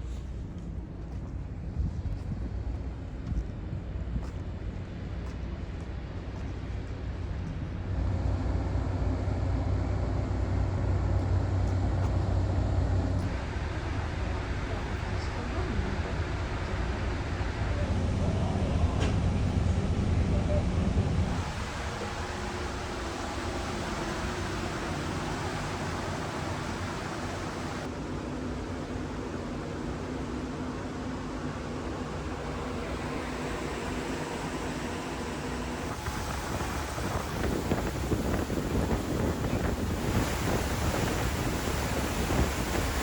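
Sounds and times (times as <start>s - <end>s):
low engine rumble: 0.0s - 43.0s
rushing water and air: 0.0s - 43.0s.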